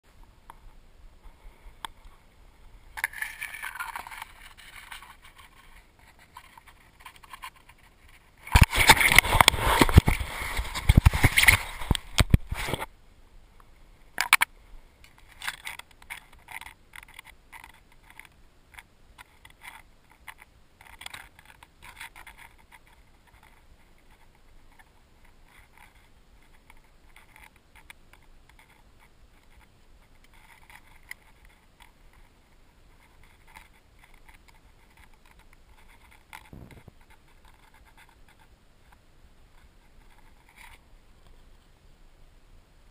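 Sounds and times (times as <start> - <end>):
rustling and scraping in brush: 0.5 - 12.9, 15.1 - 41.8.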